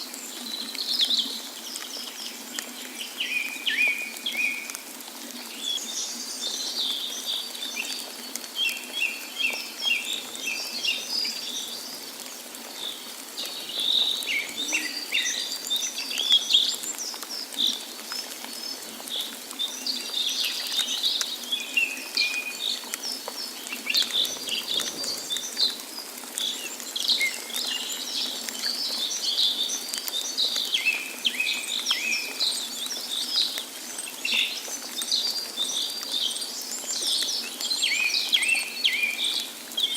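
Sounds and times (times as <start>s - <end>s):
running water: 0.0s - 39.9s
birds singing and chirping: 0.1s - 39.9s.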